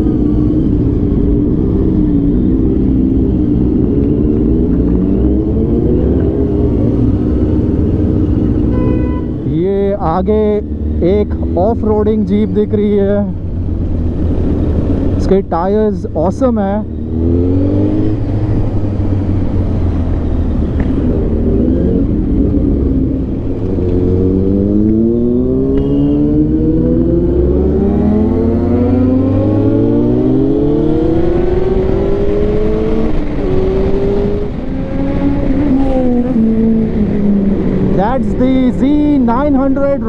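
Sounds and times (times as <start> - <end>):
motorcycle engine accelerating: 0.0 - 8.8, 16.5 - 39.8.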